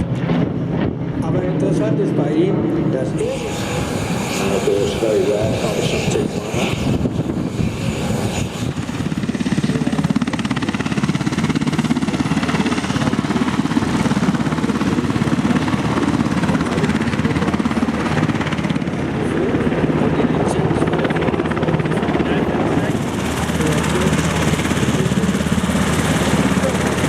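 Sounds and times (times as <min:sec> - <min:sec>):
helicopter rotor beating: 0:00.0 - 0:27.0.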